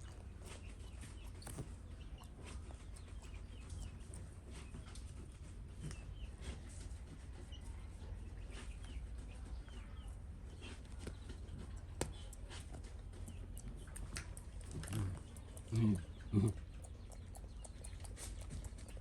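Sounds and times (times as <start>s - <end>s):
chickens peeping and clucking: 0.0s - 19.0s
steady low hum: 0.0s - 19.0s.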